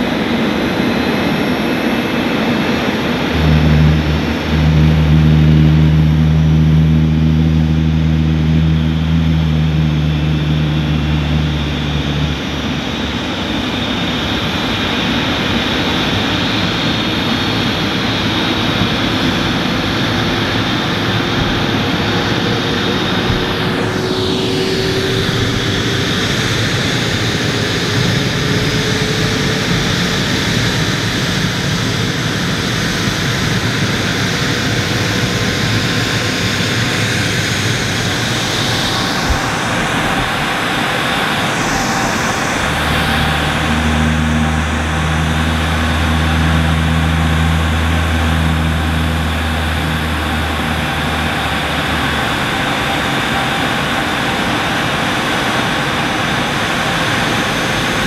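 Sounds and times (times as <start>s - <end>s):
faint rising whine: 0.0s - 58.0s
jet engine roar: 0.0s - 58.0s
low hum: 0.0s - 58.0s.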